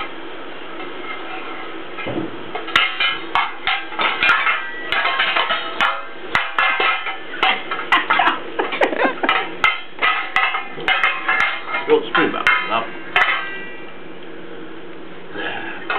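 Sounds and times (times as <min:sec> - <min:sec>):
metal saucepan lids clanging: 0:00.8 - 0:13.7.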